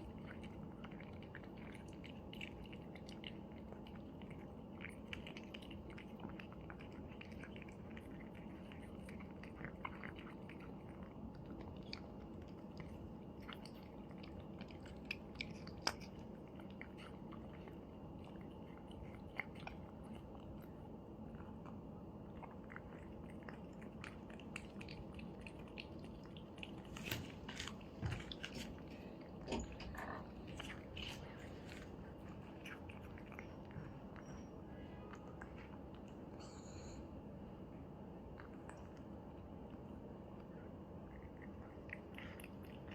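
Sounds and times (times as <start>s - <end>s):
cats crunching food: 0.0s - 36.4s, 38.0s - 42.9s.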